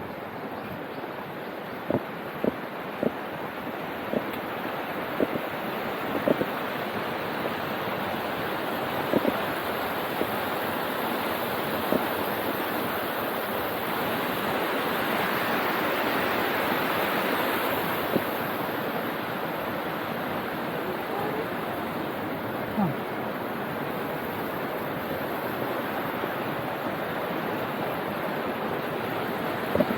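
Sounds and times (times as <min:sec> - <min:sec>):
mountain stream rushing: 0:00.0 - 0:29.9.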